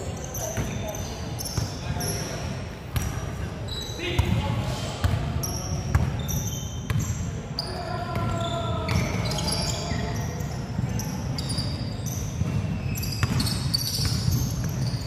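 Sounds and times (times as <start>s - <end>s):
sneakers squeaking: 0.0s - 15.0s.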